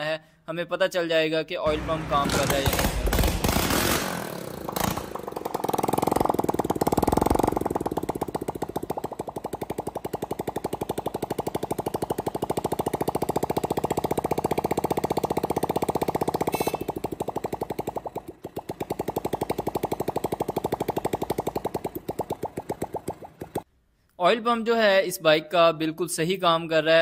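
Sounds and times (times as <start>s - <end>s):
motorcycle engine idling: 1.8s - 23.7s.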